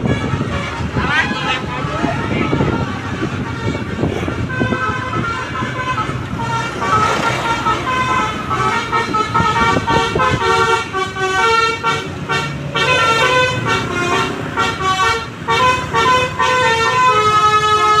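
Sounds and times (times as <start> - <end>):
multi-tone bus horn tune: 0.0 - 18.0.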